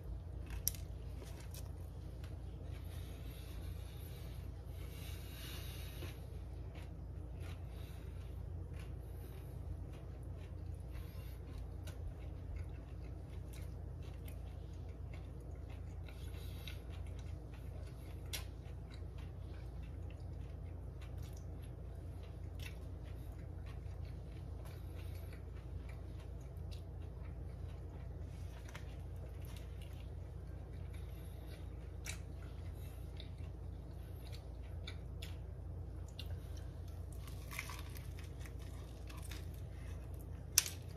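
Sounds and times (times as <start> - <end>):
person chewing: 0.0 - 40.9
steady low hum: 0.0 - 40.9.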